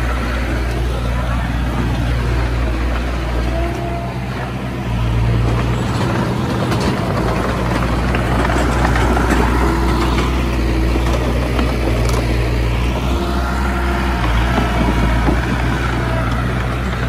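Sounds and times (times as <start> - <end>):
bulldozer diesel engine running: 0.0 - 17.0
clicks and rattles of tracks: 0.0 - 17.0.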